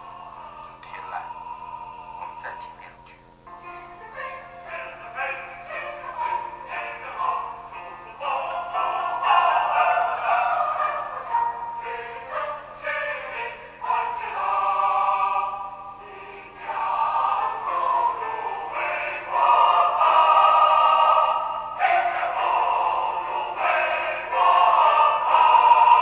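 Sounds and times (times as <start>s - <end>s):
choir singing: 0.0s - 2.6s, 4.1s - 26.0s.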